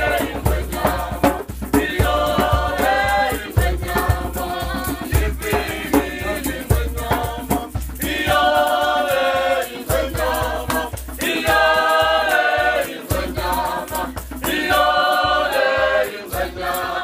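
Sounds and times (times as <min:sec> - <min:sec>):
group singing: 0:00.0 - 0:17.0
rattles keeping a beat: 0:00.0 - 0:17.0.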